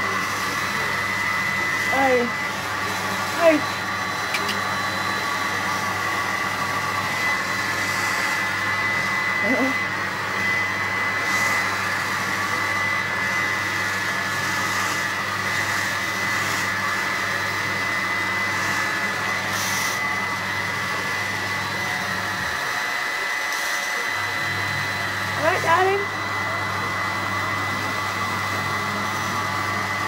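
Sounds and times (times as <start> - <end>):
hair dryer running: 0.0 - 30.0.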